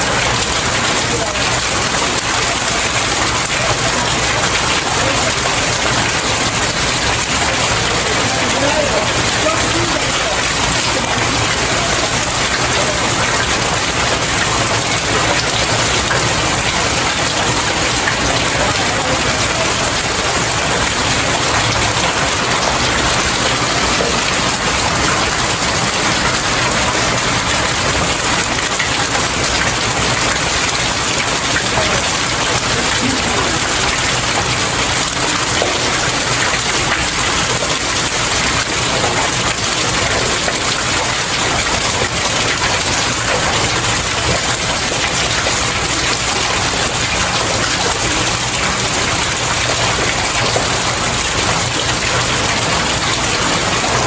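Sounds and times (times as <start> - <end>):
rain falling on stairs: 0.0 - 54.0.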